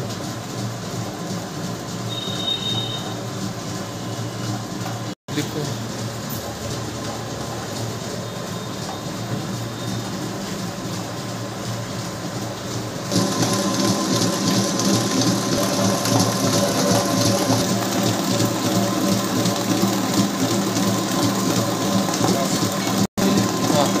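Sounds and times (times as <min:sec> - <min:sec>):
cake mixer running: 0:00.0 - 0:24.0.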